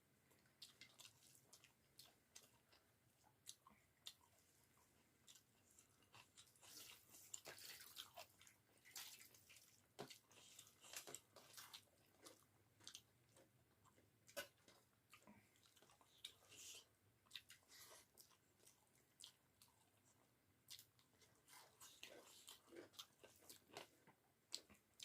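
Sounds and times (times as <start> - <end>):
chewing and mouth sounds: 0.3 - 25.0.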